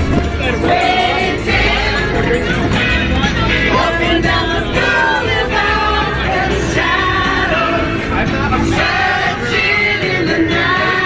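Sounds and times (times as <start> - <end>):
music playing: 0.0 - 11.0
women singing together: 0.4 - 8.0, 8.6 - 11.0.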